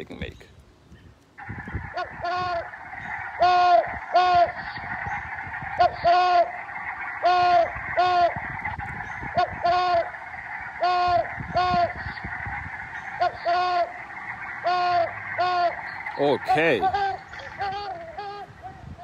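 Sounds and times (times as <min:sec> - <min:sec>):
owl calling in paired notes: 0:01.4 - 0:19.0.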